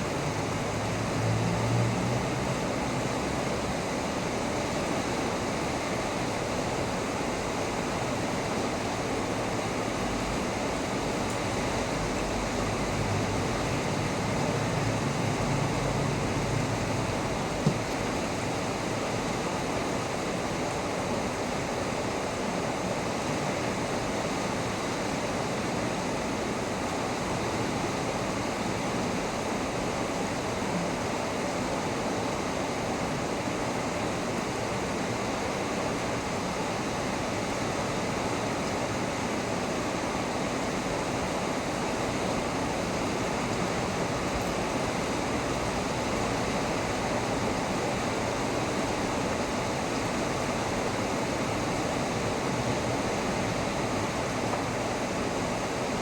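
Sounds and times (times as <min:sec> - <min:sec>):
heavy rain falling: 0:00.0 - 0:21.6, 0:23.6 - 0:56.0.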